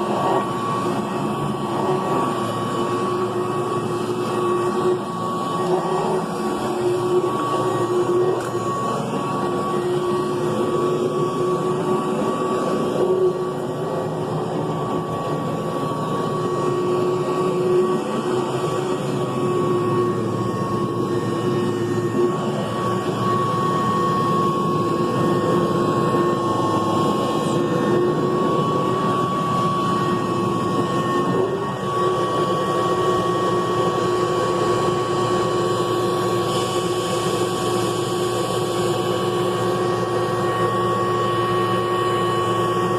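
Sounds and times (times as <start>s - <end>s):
vacuum cleaner whining: 0.0s - 42.9s.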